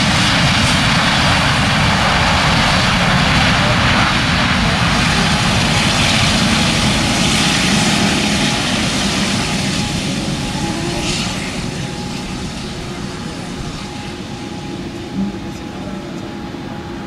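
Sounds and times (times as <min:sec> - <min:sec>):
jet engines in reverse thrust: 0:00.0 - 0:17.0.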